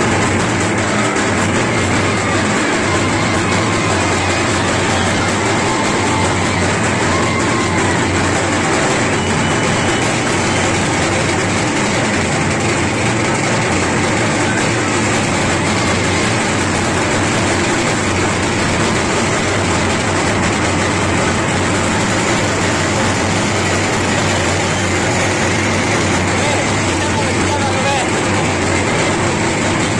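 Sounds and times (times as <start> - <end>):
crowd voices din: 0.0 - 29.9.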